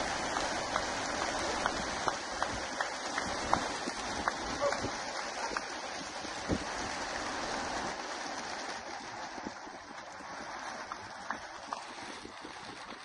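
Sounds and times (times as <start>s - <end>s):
pigeon wings whirring: 0.0s - 13.0s.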